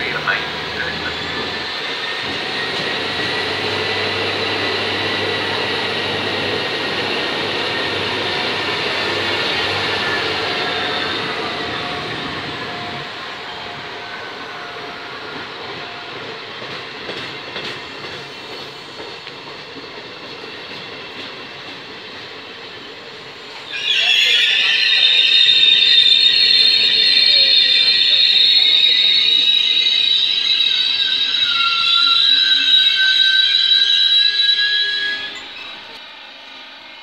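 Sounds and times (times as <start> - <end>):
train wheels rolling with high whine: 0.0 - 37.0.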